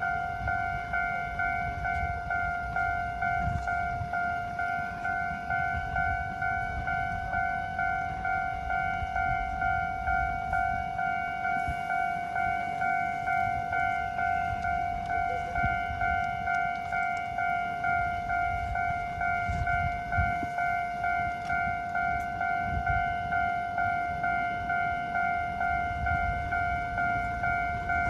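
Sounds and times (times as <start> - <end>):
level crossing warning bell: 0.0 - 28.0.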